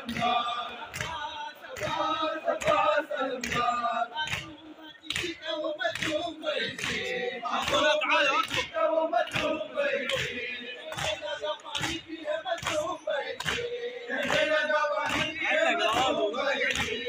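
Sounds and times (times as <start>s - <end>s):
men chanting in unison: 0.0s - 17.0s
hands slapping chests: 0.1s - 17.0s.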